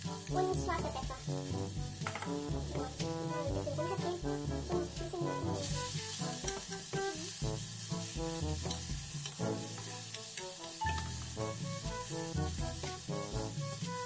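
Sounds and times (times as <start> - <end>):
background music with bass: 0.0 - 10.1, 10.8 - 14.0
garlic sizzling in oil: 0.0 - 14.0
spatula stirring in pot: 0.0 - 14.0.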